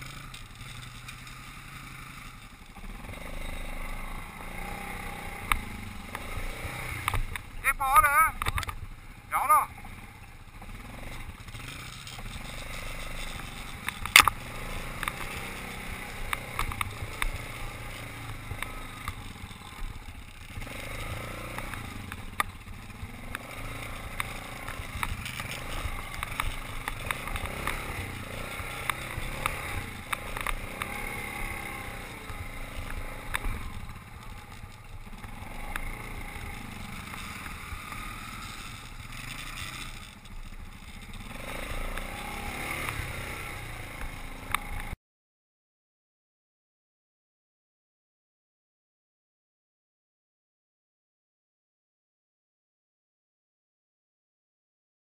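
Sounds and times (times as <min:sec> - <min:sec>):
quad bike engine running: 0:00.0 - 0:45.0.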